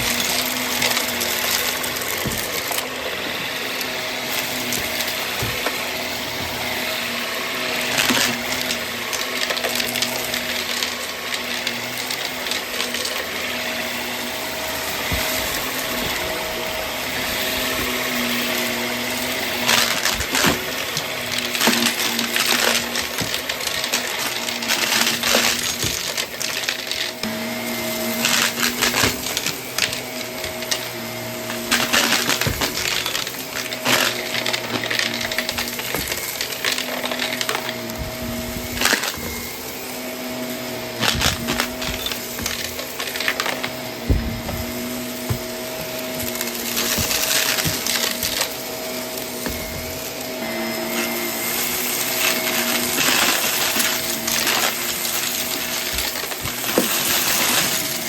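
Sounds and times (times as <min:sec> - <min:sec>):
debris clattering in vacuum: 0:00.0 - 0:58.0
vacuum cleaner humming: 0:00.0 - 0:58.0.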